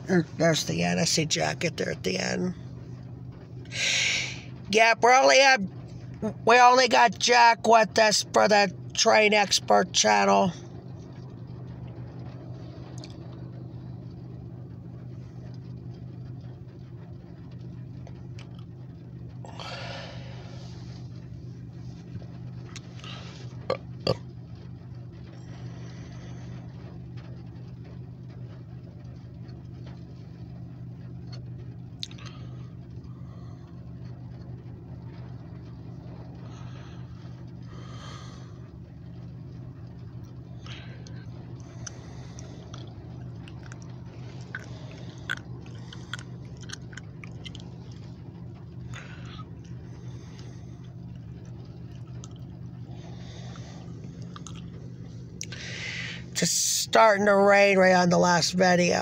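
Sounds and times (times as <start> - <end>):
low hum inside car cabin: 0.0 - 59.0
rain tapping on windshield: 0.1 - 58.8.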